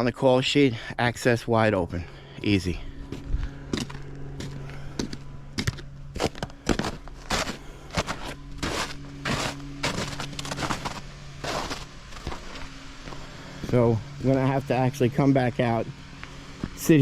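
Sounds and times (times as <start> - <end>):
machine engine running: 1.4 - 17.0
footsteps crunching on soil: 1.9 - 14.7, 16.1 - 17.0.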